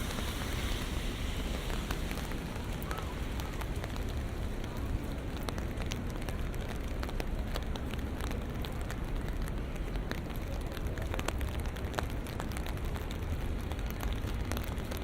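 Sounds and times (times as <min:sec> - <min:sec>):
low city rumble: 0:00.0 - 0:15.0
rain falling: 0:00.0 - 0:15.0.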